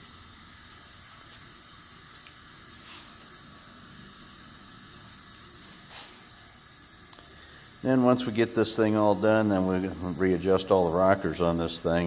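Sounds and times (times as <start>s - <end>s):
faint air leak hiss: 0.0s - 12.0s.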